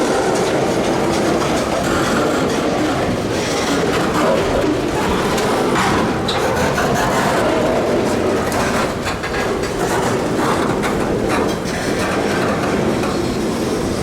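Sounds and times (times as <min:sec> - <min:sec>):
freight train rolling past: 0:00.0 - 0:14.0
train wheels clicking over rail joints: 0:00.0 - 0:14.0.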